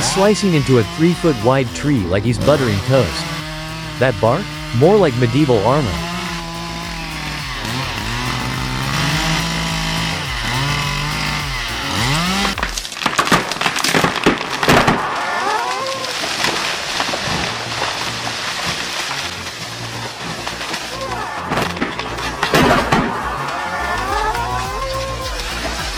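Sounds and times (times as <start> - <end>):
chainsaw cutting tree trunk: 0.0 - 25.9
sharp cracks: 0.0 - 25.9.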